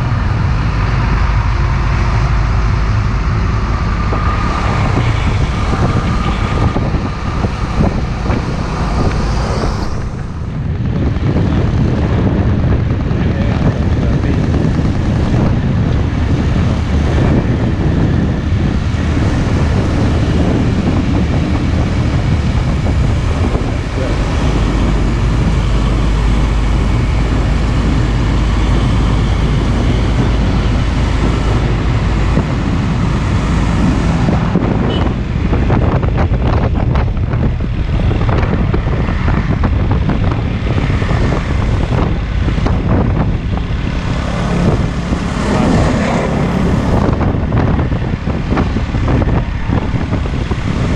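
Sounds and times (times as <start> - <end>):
heavy trucks passing on highway: 0.0 - 50.9.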